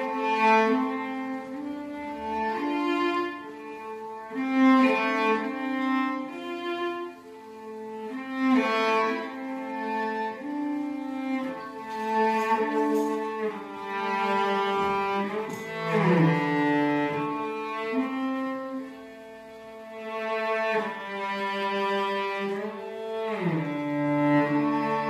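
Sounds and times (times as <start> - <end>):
slow bowed string melody: 0.0 - 25.0.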